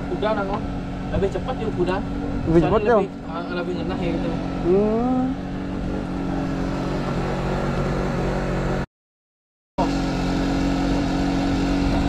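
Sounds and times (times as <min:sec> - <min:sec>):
boat engine humming: 0:00.0 - 0:08.8, 0:09.8 - 0:12.0.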